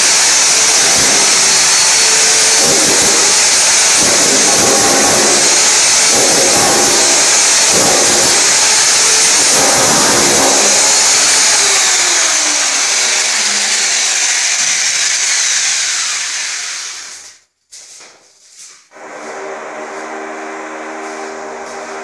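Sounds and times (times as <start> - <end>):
hammer drill chiselling wall: 0.0 - 17.4, 18.9 - 22.0.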